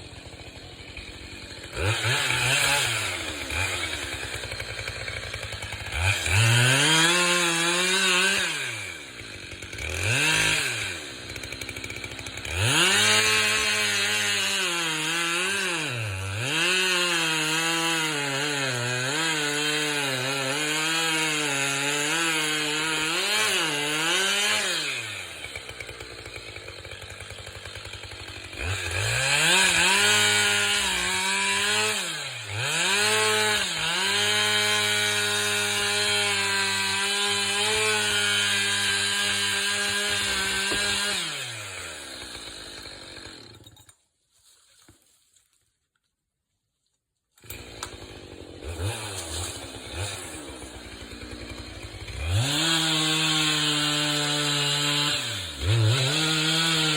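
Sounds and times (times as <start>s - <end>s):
chainsaw revving and cutting: 0.0s - 44.0s, 47.4s - 56.9s.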